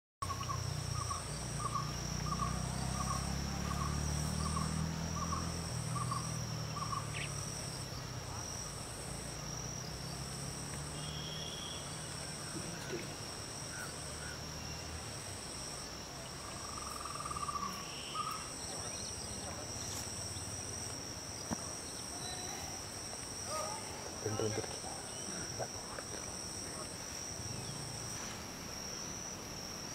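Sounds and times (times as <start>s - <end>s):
low chirp: 0.2s - 25.8s
insect trilling in pulses: 0.2s - 29.9s
insects shrilling: 0.2s - 29.9s.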